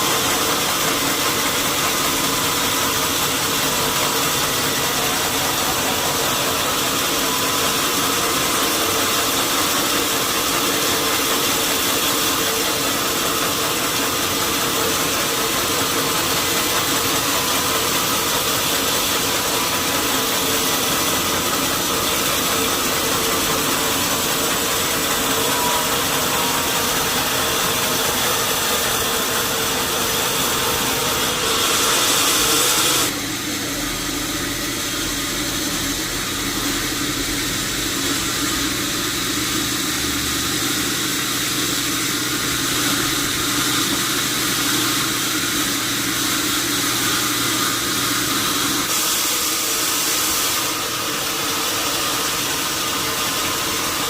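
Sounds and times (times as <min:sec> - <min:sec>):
machinery hiss: 0:00.0 - 0:54.0
sawmill machinery drone: 0:00.0 - 0:54.0.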